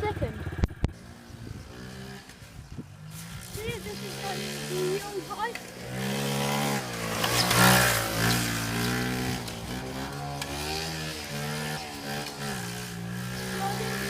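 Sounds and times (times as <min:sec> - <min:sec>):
minibike engine revving: 0:00.0 - 0:14.0.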